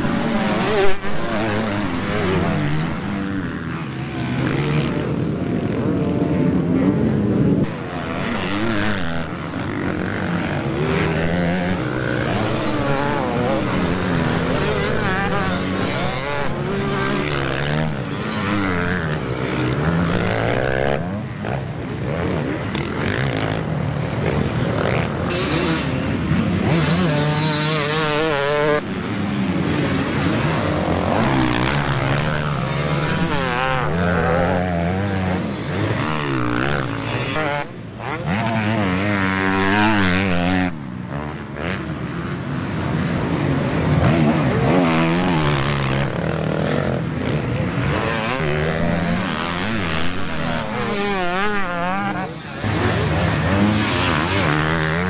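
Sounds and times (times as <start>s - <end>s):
motocross bikes revving: 0.0s - 55.0s
motorbikes passing by: 0.0s - 55.0s.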